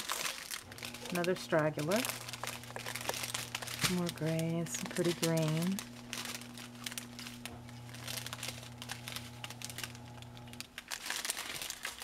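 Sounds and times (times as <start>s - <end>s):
plastic bags crinkling: 0.0s - 12.0s
steady low hum: 0.6s - 10.7s.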